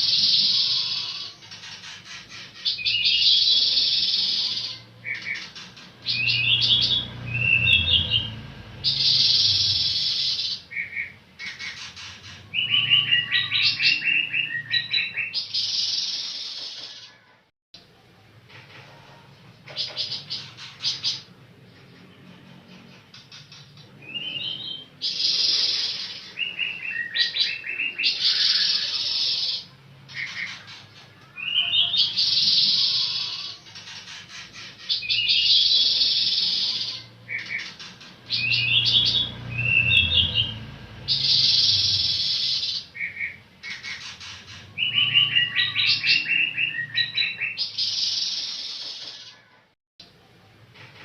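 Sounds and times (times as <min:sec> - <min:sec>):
songbird chirps and trills: 0:00.0 - 0:17.4, 0:18.8 - 0:49.6.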